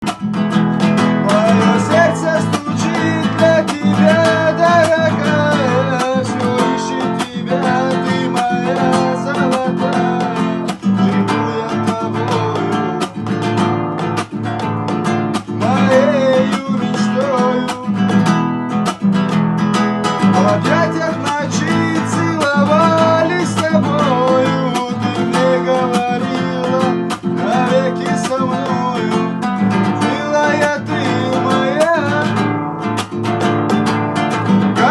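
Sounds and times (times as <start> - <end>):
acoustic guitar playing: 0.0 - 34.9.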